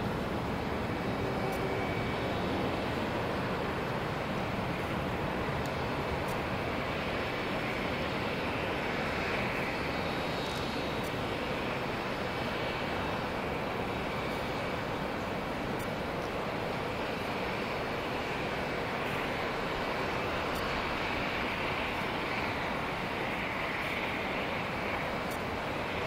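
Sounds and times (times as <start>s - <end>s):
jet engines idling: 0.0s - 26.0s.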